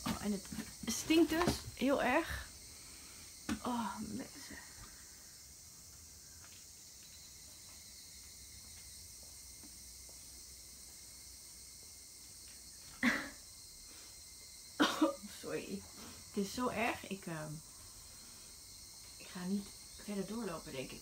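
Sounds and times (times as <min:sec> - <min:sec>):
faint high-pitched hiss: 0:00.0 - 0:21.0.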